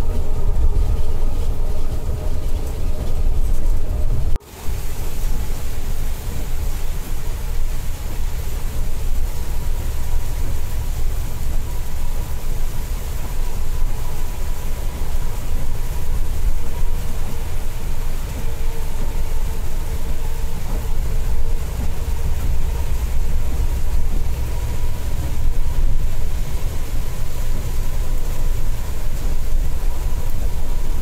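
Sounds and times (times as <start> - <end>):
coach engine and road rumble: 0.0 - 31.0.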